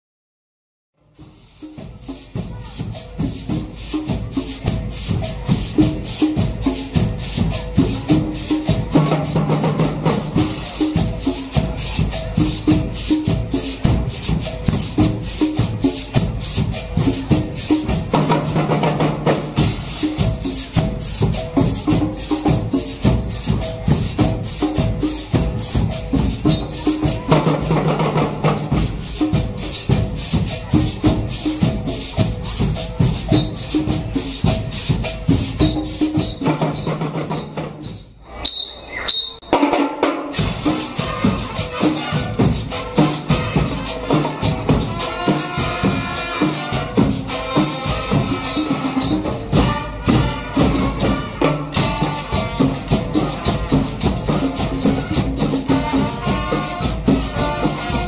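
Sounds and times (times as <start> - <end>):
marching drum line cadence: 1.0 - 58.0.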